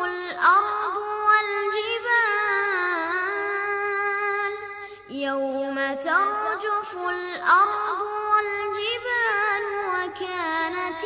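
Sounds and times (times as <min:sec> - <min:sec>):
child chanting melodically: 0:00.0 - 0:11.0.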